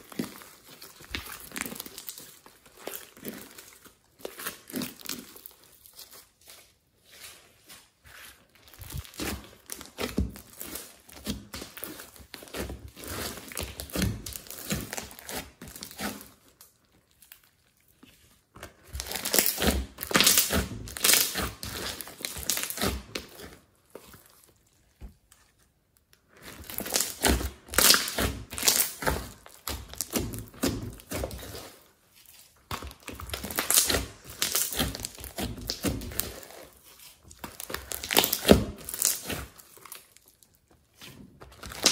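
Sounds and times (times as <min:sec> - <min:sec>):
hands squishing sticky slime: 0:00.0 - 0:41.9.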